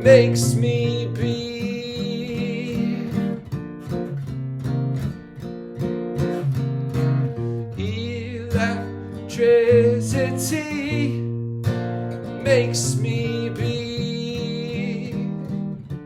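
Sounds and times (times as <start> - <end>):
acoustic guitar strummed and picked: 0.0 - 16.0
looped guitar playback: 0.0 - 16.0.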